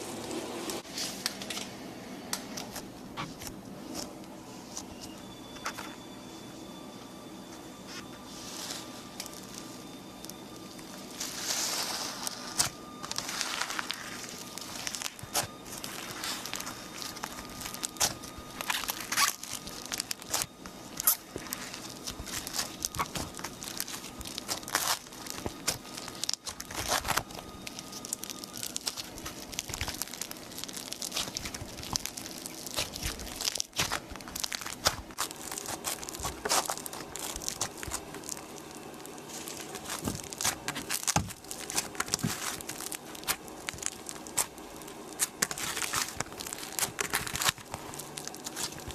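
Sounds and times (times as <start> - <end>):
slime crackling and popping: 8.4 - 48.9.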